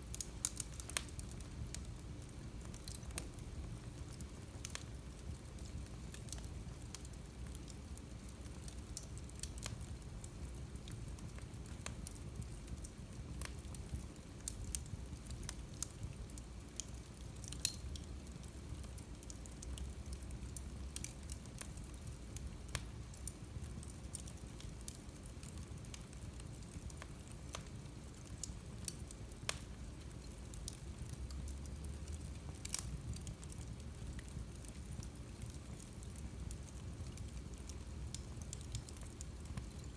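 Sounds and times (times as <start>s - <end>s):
fire crackling and popping: 0.0s - 39.9s
fire rumbling: 0.1s - 39.9s.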